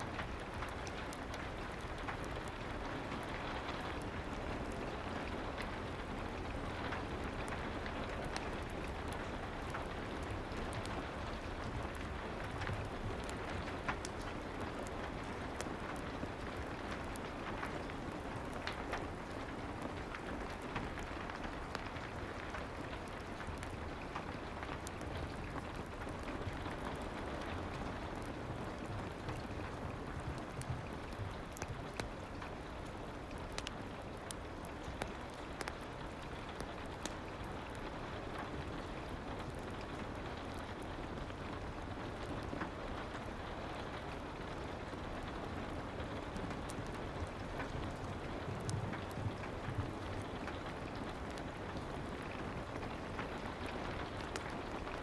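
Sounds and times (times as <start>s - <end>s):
fireplace crackling: 0.0s - 55.0s
soft rain: 0.0s - 55.0s.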